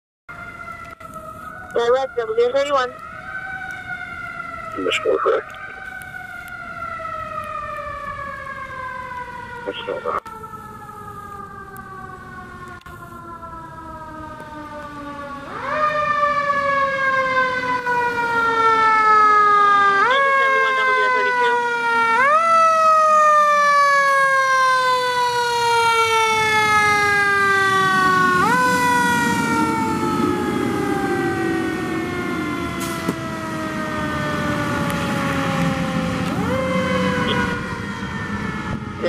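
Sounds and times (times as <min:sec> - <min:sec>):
fire engine siren wailing: 0:00.3 - 0:39.0.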